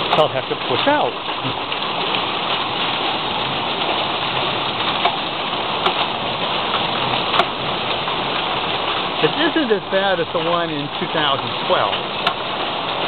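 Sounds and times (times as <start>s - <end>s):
hail and rain on wooden deck: 0.0s - 13.0s.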